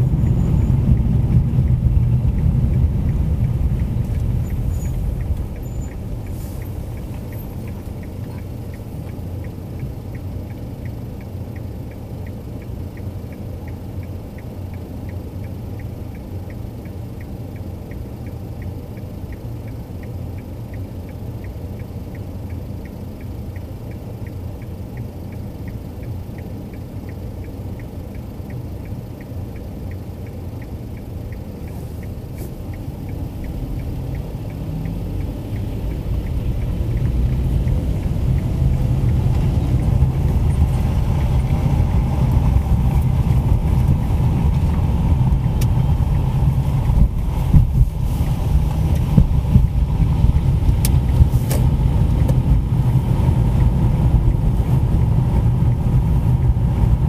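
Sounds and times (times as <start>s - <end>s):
car road and engine rumble: 0.0s - 57.0s
faint even ticking: 0.0s - 57.0s.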